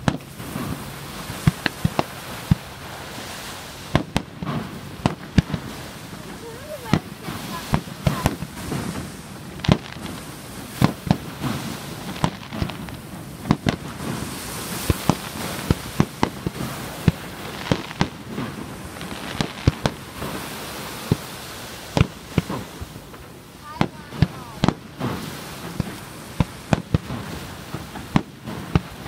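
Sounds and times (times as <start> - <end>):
fireworks bursting with sharp bangs: 0.0 - 29.0.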